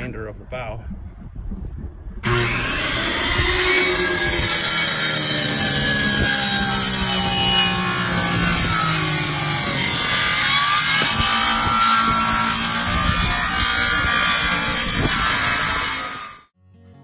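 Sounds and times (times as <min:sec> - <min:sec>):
power tool cutting wood: 0:02.2 - 0:16.5.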